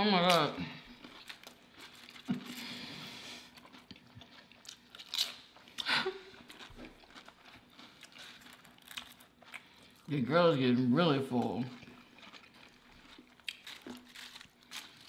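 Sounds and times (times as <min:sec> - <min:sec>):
chips being crunched and chewed: 0:00.1 - 0:02.6, 0:03.5 - 0:10.1, 0:11.3 - 0:15.0.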